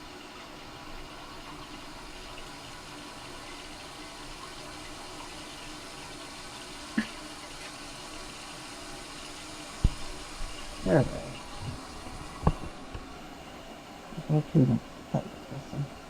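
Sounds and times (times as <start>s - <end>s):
toilet tank refilling: 0.0s - 16.0s.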